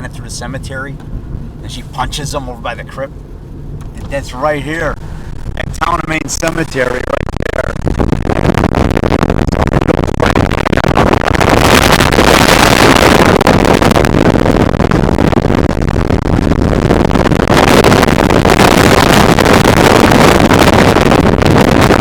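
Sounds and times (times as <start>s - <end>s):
road and wind noise in car: 0.0s - 22.0s.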